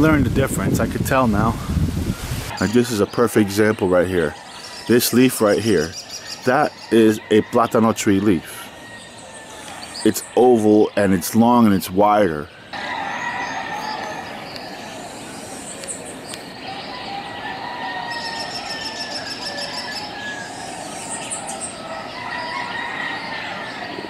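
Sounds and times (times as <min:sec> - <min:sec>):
steady background hiss: 0:00.0 - 0:22.1
birds chirping and calling: 0:00.0 - 0:24.0.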